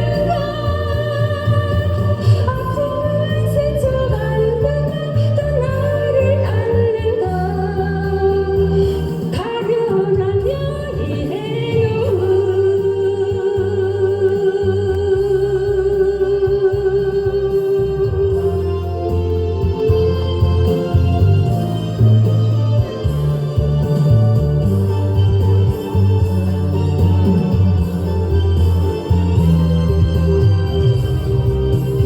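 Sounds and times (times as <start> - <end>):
backing music with bass line: 0.0 - 32.0.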